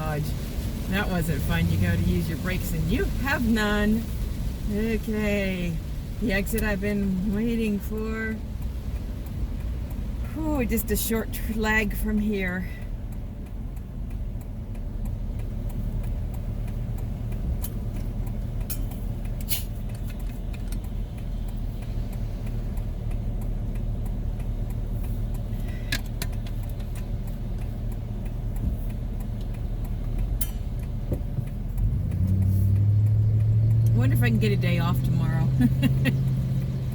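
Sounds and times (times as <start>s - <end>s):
engine and road noise in cabin: 0.0s - 36.9s.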